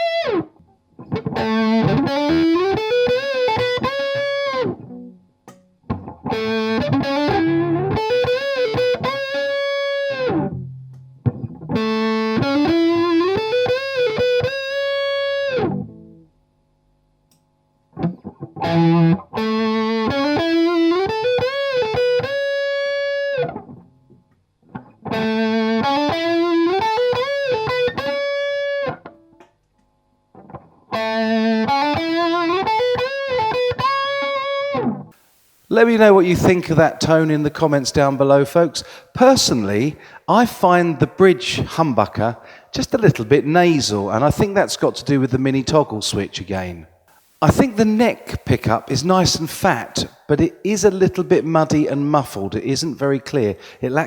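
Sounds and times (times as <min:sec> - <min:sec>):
electric guitar lick: 0:00.0 - 0:16.2, 0:18.0 - 0:24.0, 0:24.7 - 0:29.4, 0:30.4 - 0:44.2, 0:47.1 - 0:52.0, 0:53.6 - 0:54.0.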